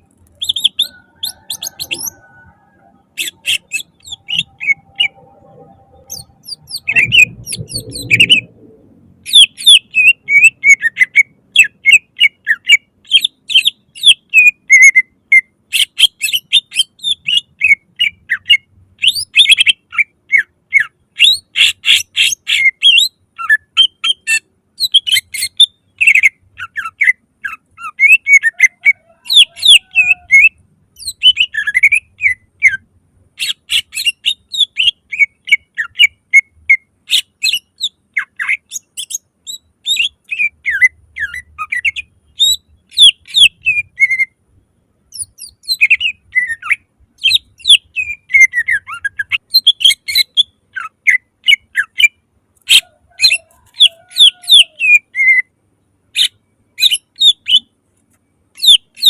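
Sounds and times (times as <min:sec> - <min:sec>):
bird singing chirps and whistles: 0:00.3 - 0:08.6, 0:09.2 - 0:32.8, 0:33.4 - 0:44.4, 0:45.1 - 0:55.5, 0:56.2 - 0:57.7, 0:58.6 - 0:59.0.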